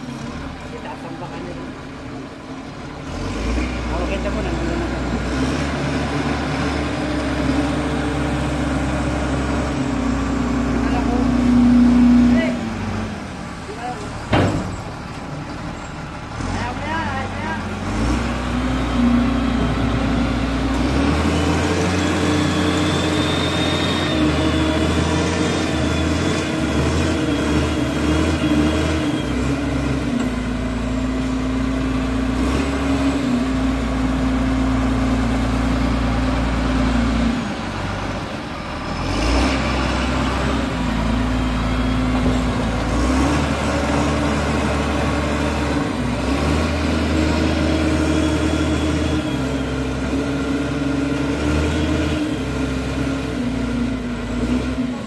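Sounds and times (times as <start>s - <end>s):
wheel loader diesel engine: 0.0s - 55.0s.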